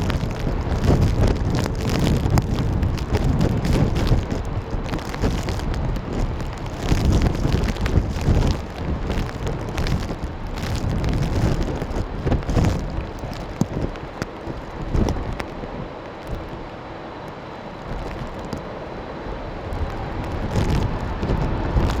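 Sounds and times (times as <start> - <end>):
scattered crackles: 0.0 - 18.7, 19.6 - 22.0
gusty wind buffeting microphone: 0.0 - 22.0.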